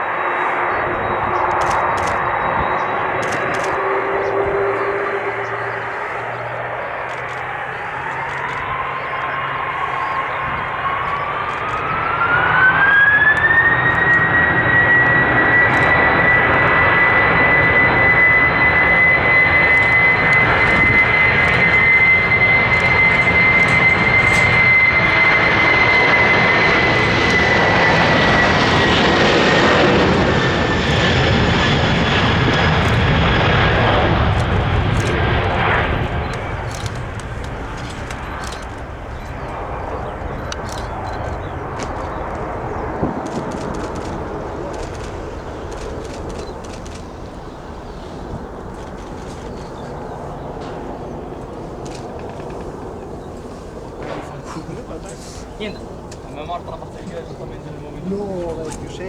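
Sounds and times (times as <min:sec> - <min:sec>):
jet engine roar: 0:00.0 - 0:59.0
jet engines whining: 0:00.0 - 0:59.0.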